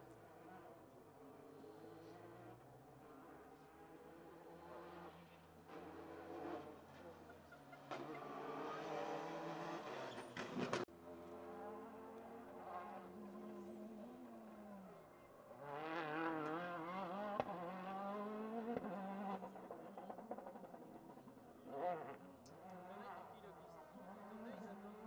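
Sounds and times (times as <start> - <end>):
rally car engine at high revs: 0.2 - 25.0.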